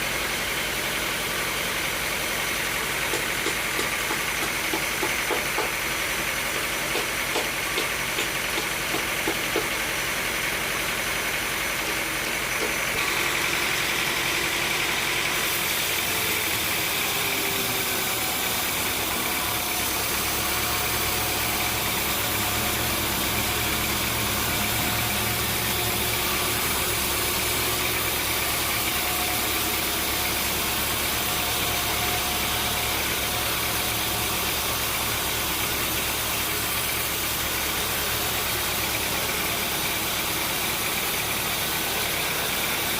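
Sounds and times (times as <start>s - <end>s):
sawmill machinery drone: 0.0s - 42.9s.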